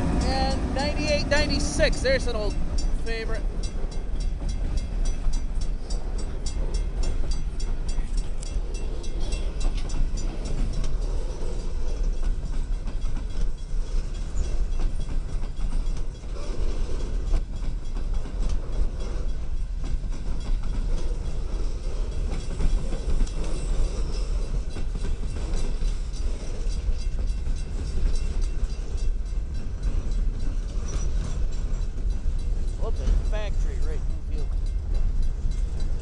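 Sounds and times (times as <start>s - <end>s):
freight train wheels rumbling on rail: 0.0s - 36.0s
train wheels clacking: 0.0s - 36.0s.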